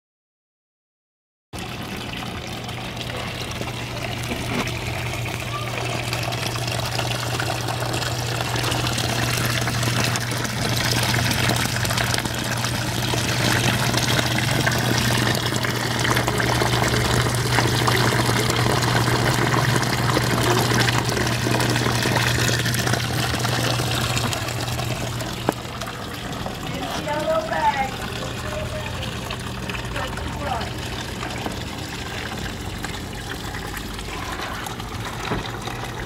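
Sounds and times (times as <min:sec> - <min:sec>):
water pouring and splashing: 0:01.6 - 0:36.0.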